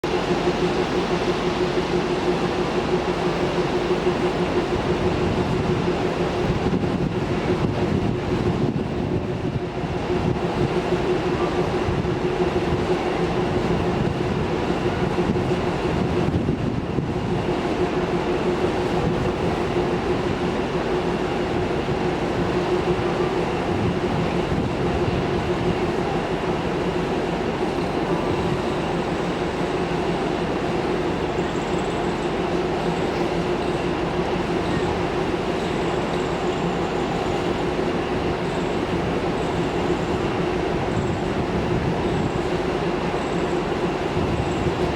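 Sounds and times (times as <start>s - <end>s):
constant hum: 0.0s - 44.9s
train wheels rumbling on rails: 0.0s - 44.9s.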